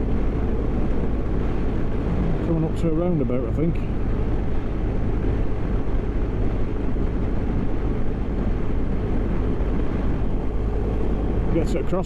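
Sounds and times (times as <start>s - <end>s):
road noise: 0.0s - 12.0s
wind buffeting on microphone: 0.0s - 12.0s.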